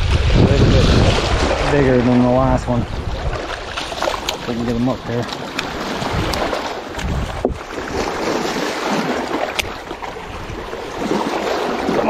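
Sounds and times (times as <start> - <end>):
small waves splashing on rocks: 0.0 - 12.0
wind buffeting microphone: 0.0 - 12.0.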